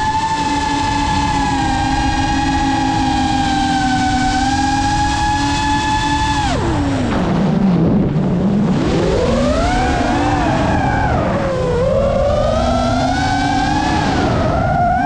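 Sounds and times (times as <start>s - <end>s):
quadcopter motors whining: 0.0s - 7.6s, 8.4s - 15.0s
steady rushing noise: 0.0s - 15.0s.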